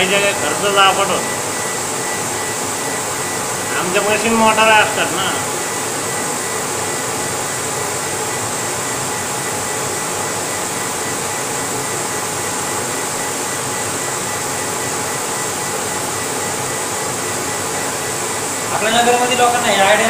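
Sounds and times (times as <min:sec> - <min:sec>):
laser engraving machine running: 0:00.0 - 0:20.0.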